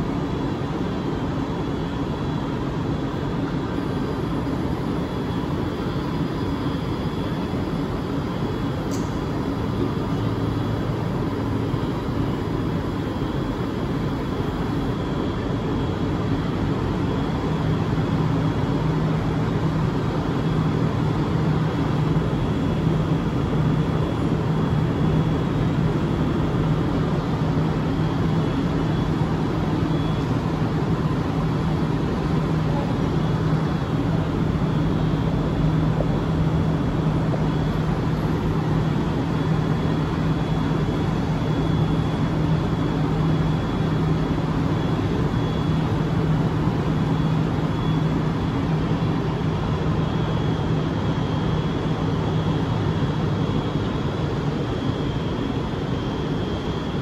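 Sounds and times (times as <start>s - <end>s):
faint high whine: 0.0s - 57.0s
train steady hum: 0.0s - 57.0s.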